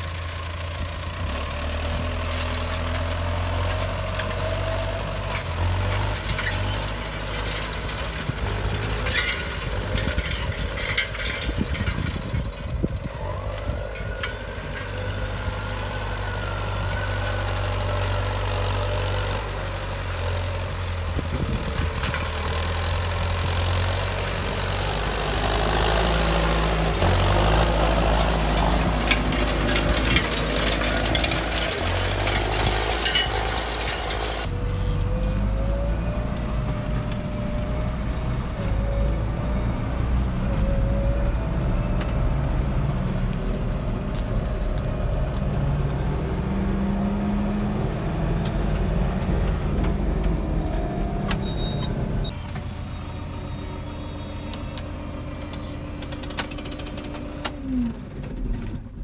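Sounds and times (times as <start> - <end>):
tractor engine running: 0.0 - 59.0
cultivator rattling and scraping: 0.3 - 59.0.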